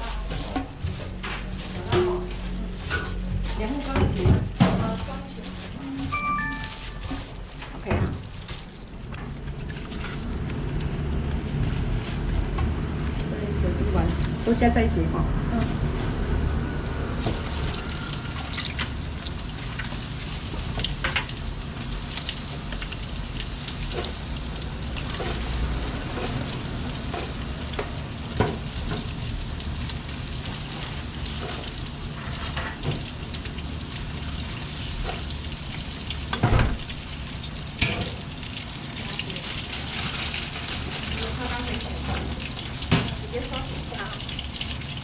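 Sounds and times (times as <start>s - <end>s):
fish deep-frying in oil: 0.0s - 45.0s.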